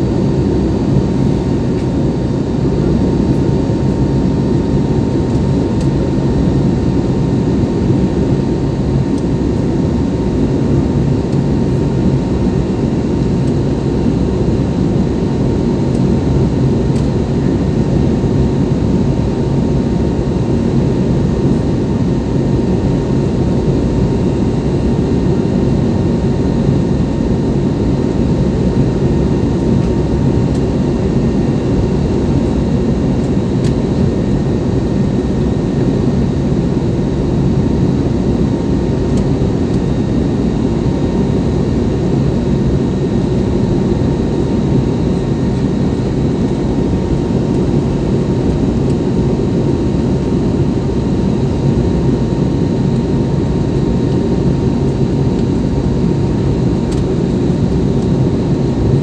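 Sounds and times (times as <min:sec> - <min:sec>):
aircraft cabin engine drone: 0:00.0 - 0:59.0.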